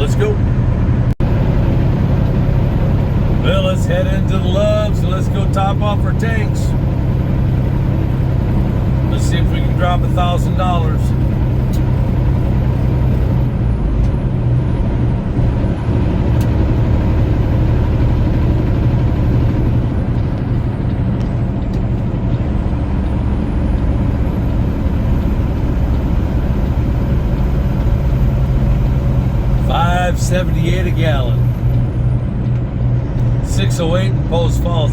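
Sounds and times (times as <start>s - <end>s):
road noise: 0.0s - 34.9s
truck diesel engine running: 0.0s - 34.9s.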